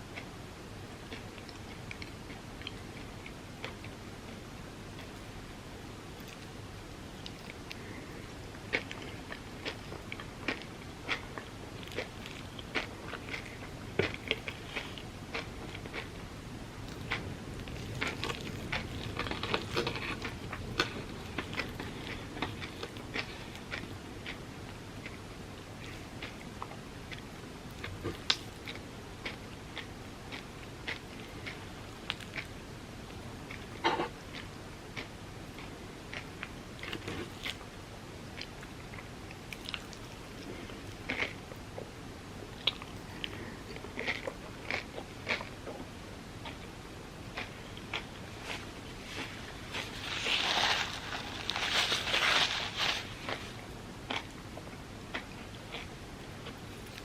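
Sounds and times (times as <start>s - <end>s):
steady low hiss: 0.0s - 57.0s
close-miked chewing: 0.1s - 5.3s, 6.2s - 32.6s, 33.4s - 41.9s, 42.5s - 57.0s.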